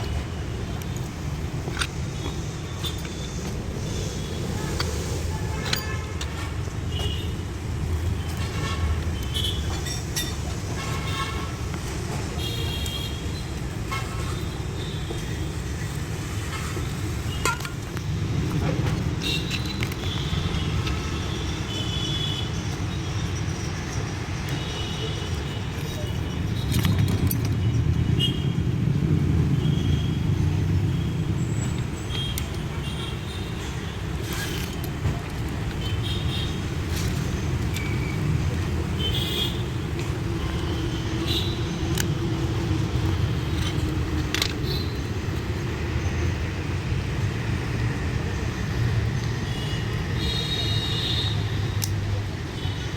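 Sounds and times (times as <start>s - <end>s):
road traffic: 0.0s - 52.9s.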